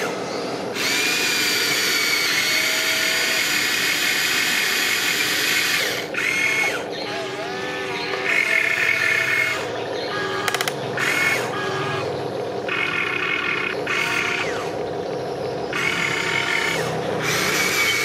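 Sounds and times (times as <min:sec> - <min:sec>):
electric gear motors whining: 0:00.0 - 0:18.0.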